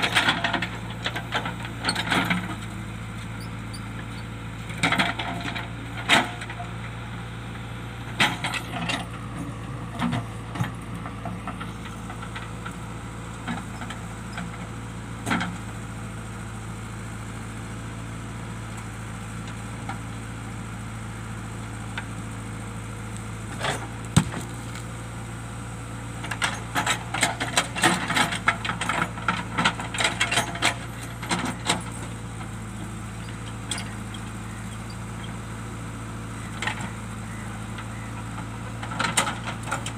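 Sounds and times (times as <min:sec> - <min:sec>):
digger diesel engine running: 0:00.0 - 0:39.9.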